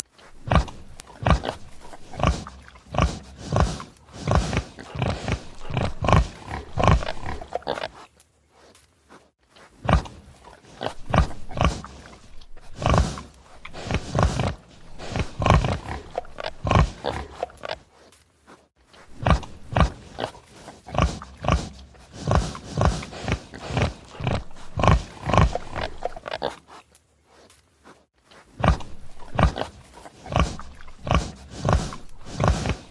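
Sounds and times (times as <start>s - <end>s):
pig grunting: 0.0s - 8.0s, 9.7s - 17.8s, 19.0s - 26.7s, 28.4s - 32.9s.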